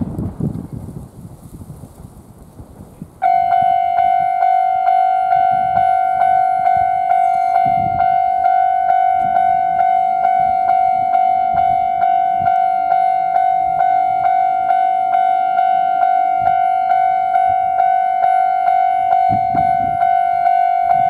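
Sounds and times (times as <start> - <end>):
level crossing bell clanging: 3.2 - 21.0.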